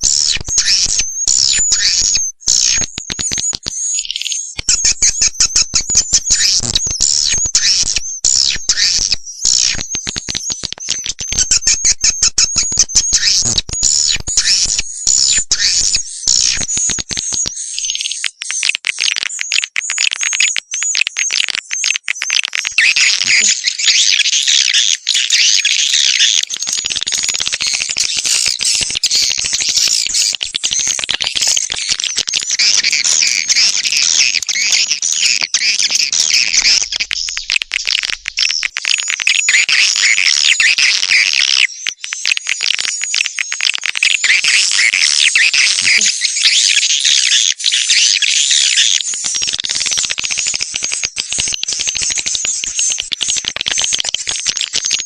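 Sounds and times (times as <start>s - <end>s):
swiftlets chirping and twittering: 0.0s - 55.0s.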